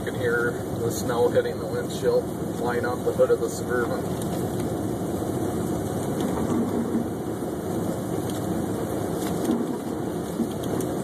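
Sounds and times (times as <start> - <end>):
in-cabin road and engine rumble: 0.0 - 11.0.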